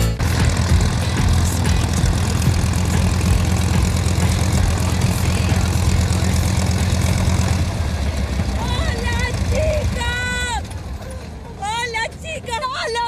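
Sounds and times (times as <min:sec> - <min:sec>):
propeller engine running: 0:00.0 - 0:12.8.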